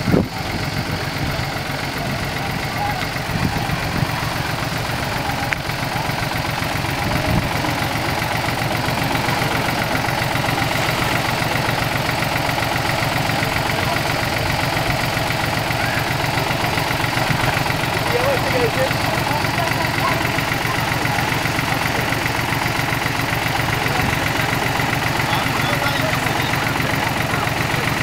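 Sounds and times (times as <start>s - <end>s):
tractor diesel engine idling: 0.0s - 28.0s.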